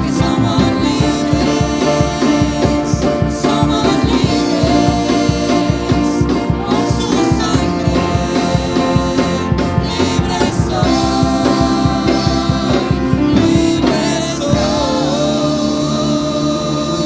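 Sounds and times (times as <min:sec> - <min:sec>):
person singing: 0:00.0 - 0:17.0
worship band playing: 0:00.0 - 0:17.0.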